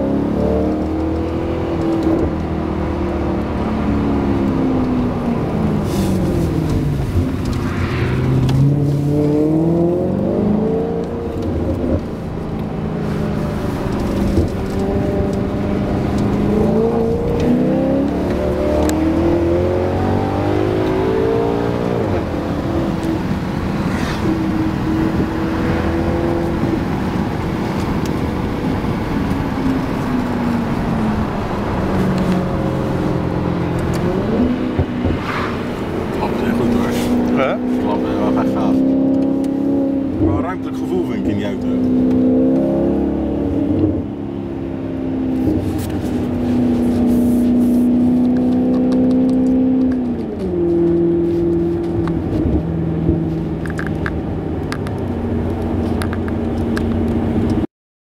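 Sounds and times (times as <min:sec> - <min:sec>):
car engine revving under load: 0:00.0 - 0:57.7.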